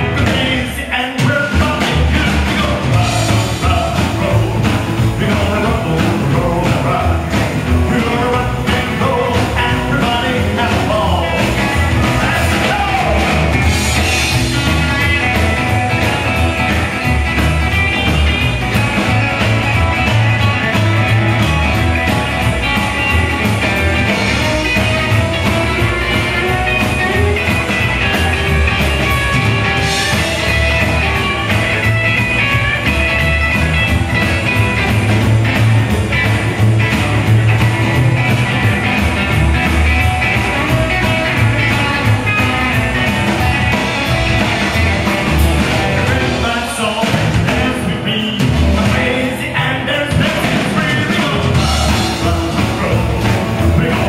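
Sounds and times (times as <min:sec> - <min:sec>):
live rock and roll band: 0:00.0 - 0:54.0.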